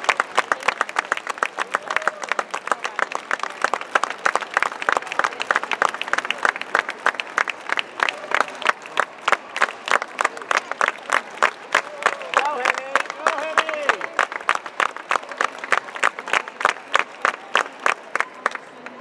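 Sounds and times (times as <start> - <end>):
spectators applauding: 0.0 - 19.0.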